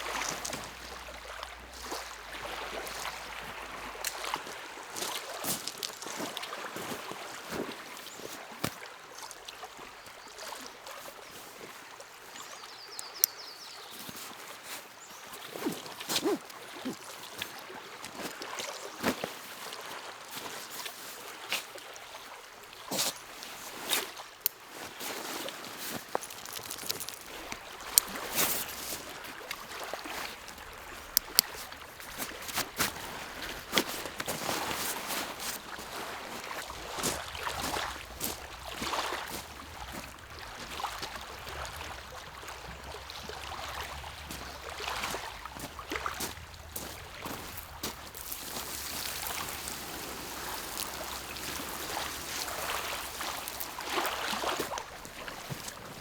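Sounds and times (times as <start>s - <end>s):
lake waves lapping at shore: 0.0s - 56.0s.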